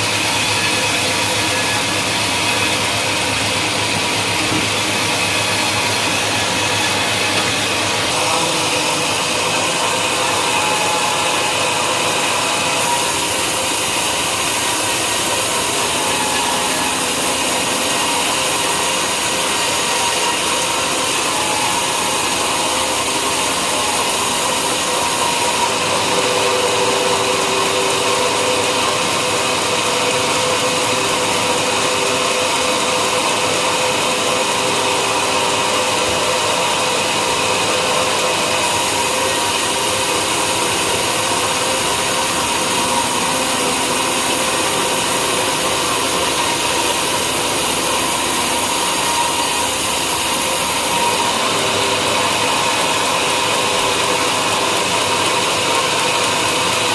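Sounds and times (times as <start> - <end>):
sawmill saw cutting timber: 0.0 - 56.9.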